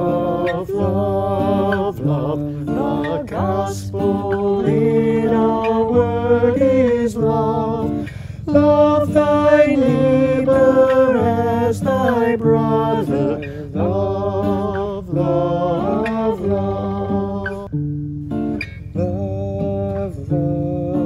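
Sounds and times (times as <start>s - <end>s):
woman and man singing together: 0.0s - 17.7s
strummed acoustic guitar: 0.0s - 21.0s.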